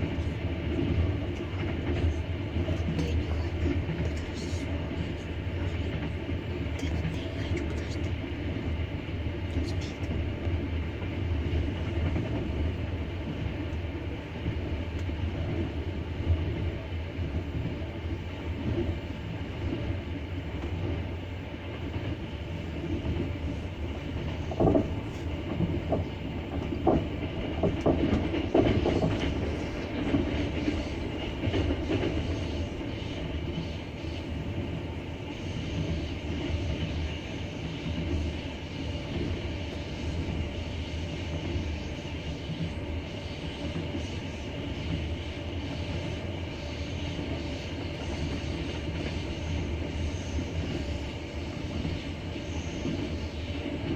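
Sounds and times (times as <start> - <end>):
train wheels rumbling: 0.0 - 53.9.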